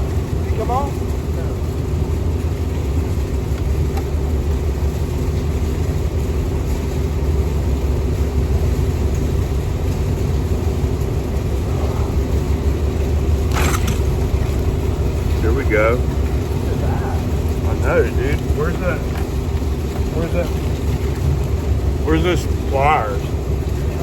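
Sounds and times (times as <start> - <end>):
boat motor running: 0.0 - 24.0.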